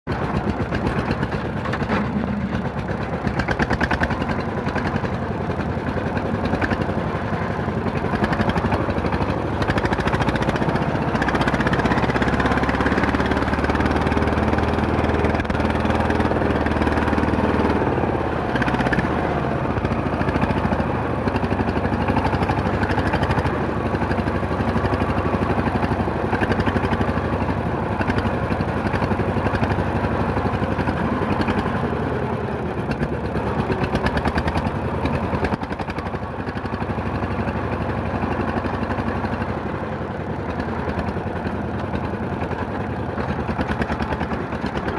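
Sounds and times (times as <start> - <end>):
vehicle engine running: 0.1 - 44.9.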